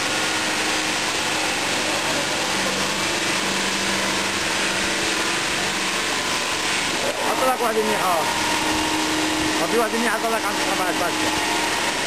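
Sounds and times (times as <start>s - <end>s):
stone cutting machine humming: 0.0s - 12.0s.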